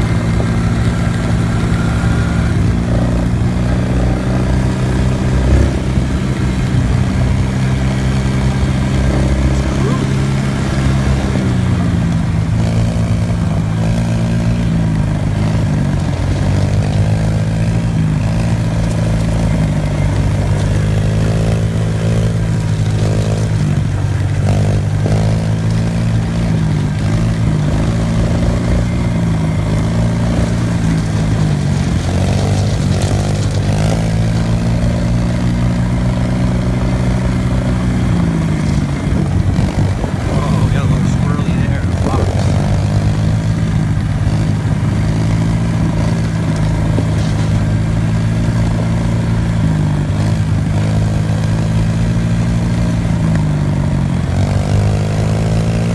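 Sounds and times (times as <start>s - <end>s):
dirt bike engines running: 0.0s - 55.9s.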